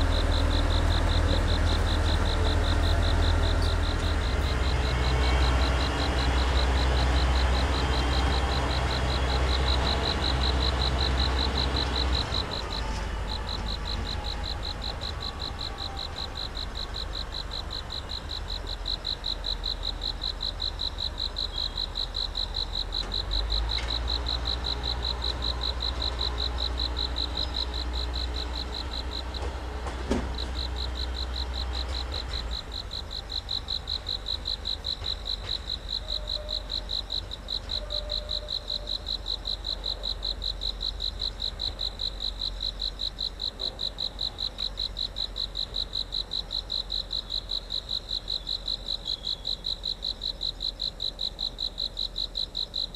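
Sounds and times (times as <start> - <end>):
diesel engine rumble: 0.0 - 46.4
crickets chirping: 0.0 - 52.9.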